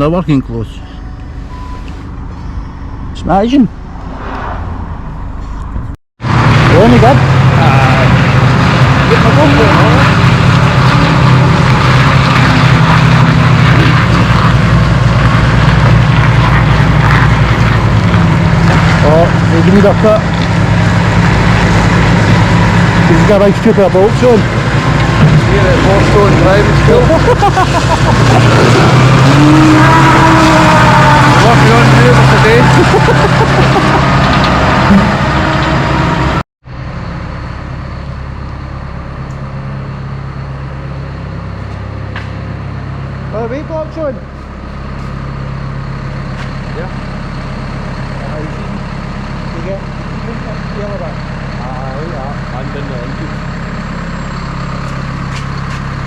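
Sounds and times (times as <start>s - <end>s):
tractor diesel engine drone: 0.0s - 56.0s.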